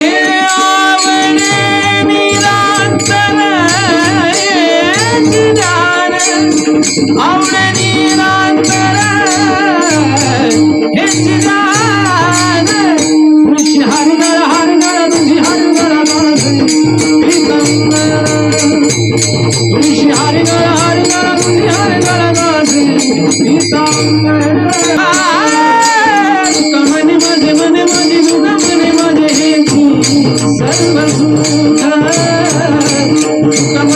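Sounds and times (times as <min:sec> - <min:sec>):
hand cymbals: 0:00.0 - 0:33.9
man singing: 0:00.0 - 0:33.9.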